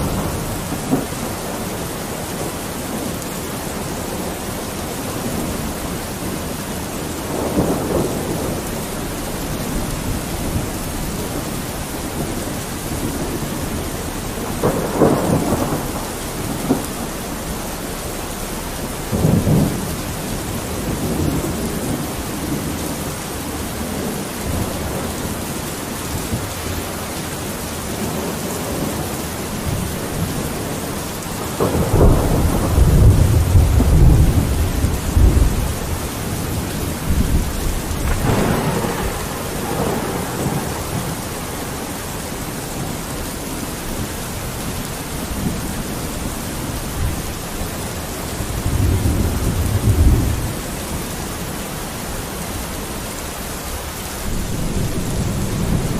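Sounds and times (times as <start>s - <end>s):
low rolling thunder: 0.0s - 55.9s
rain on a window: 0.0s - 55.9s.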